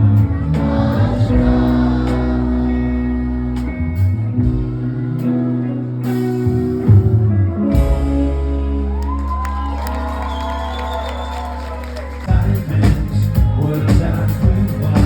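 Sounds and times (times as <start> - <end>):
electric guitar chords: 0.0 - 10.2, 12.1 - 15.0
sustained bass notes: 0.0 - 10.2, 11.8 - 15.0.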